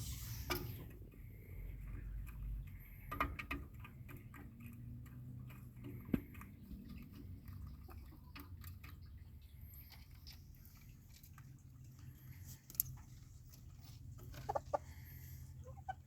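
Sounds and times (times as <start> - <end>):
hens pecking at feed: 0.5 - 16.0.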